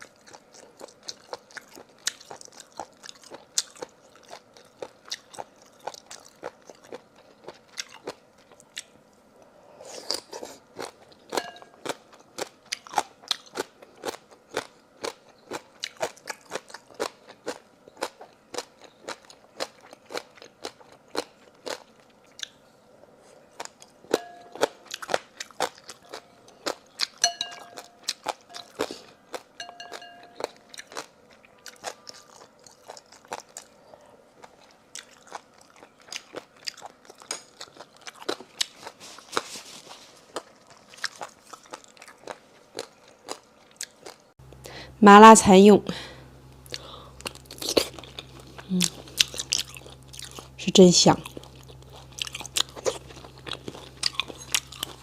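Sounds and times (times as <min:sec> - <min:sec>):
crunchy chewing: 0:00.0 - 0:44.6, 0:46.5 - 0:50.6, 0:51.2 - 0:55.0.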